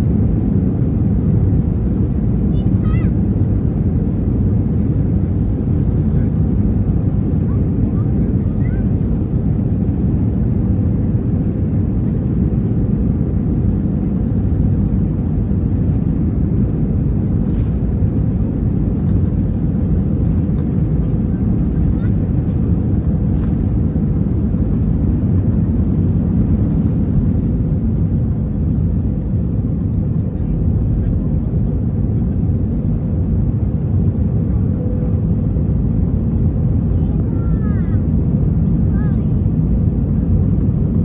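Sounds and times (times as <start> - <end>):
aircraft cabin engine drone: 0.0 - 41.0.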